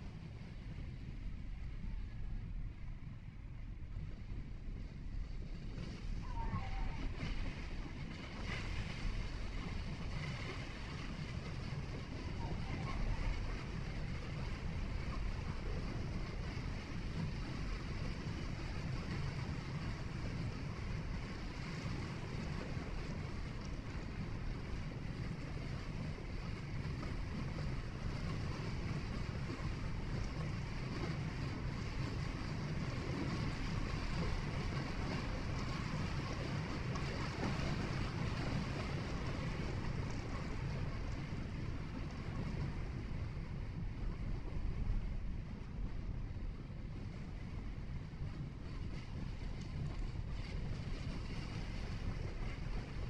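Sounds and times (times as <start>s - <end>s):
wind noise: 0.0s - 53.0s.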